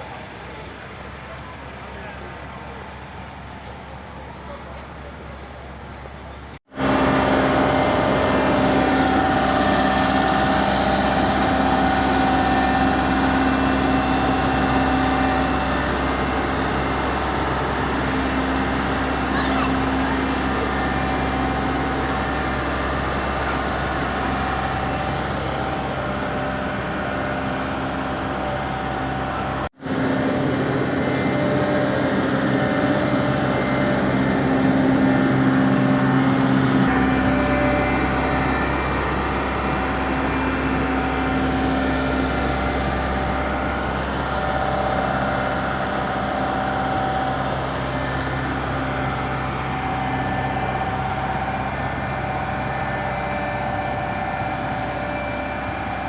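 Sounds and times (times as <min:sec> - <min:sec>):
vehicle engines running: 0:00.0 - 0:56.0.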